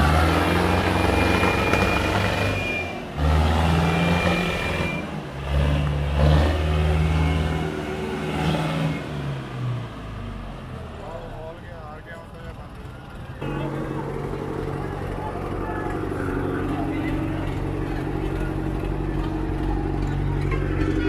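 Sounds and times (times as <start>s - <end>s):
tractor diesel engines revving: 0.0s - 21.0s.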